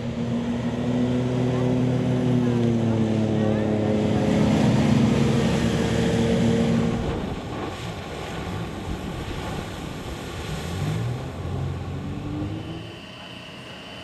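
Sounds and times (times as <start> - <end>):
boat engine running: 0.0 - 14.0
wind: 0.0 - 14.0.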